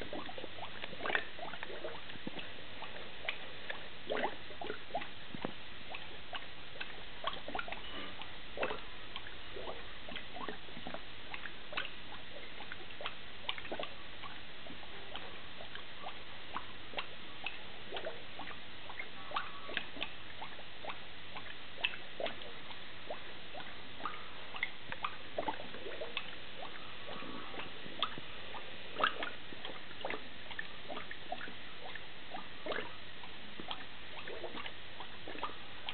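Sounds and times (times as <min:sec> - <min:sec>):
airlock bubbling: 0:00.0 - 0:35.9.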